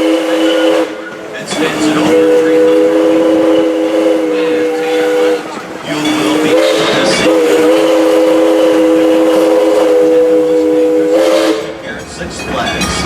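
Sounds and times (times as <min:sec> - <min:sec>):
steam locomotive chime whistle: 0:00.0 - 0:13.0.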